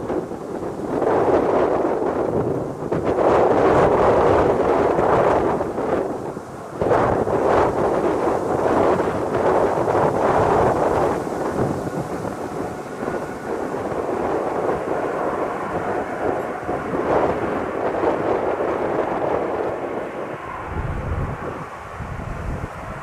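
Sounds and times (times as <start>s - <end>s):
jet engines rumbling: 0.0s - 23.0s
wind buffeting microphone: 0.0s - 23.0s.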